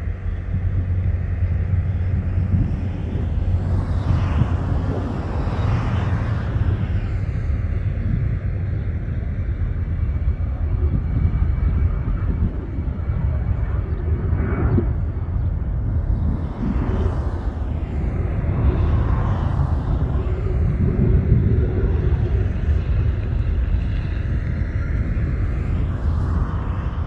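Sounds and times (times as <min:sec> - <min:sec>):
jet engines rumbling at takeoff: 0:00.0 - 0:27.0.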